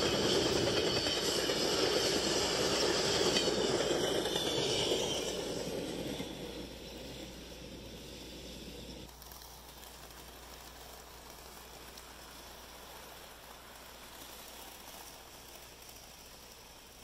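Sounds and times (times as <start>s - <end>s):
model train rolling hiss: 0.0s - 17.0s
model train running sound: 0.0s - 17.0s.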